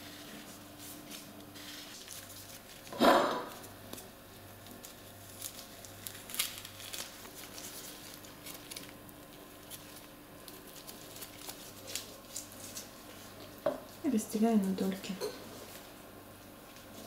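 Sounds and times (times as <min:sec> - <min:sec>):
plastic gloves crinkling: 0:00.0 - 0:17.0.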